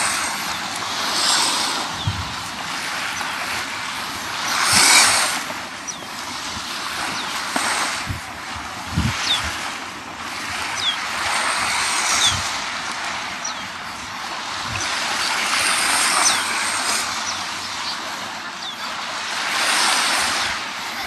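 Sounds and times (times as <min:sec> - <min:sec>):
sea waves on a sandy beach: 0:00.0 - 0:21.0.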